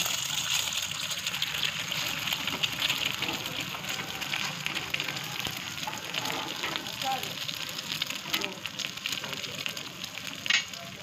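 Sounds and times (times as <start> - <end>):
egg sizzling on a griddle: 0.0 - 11.0.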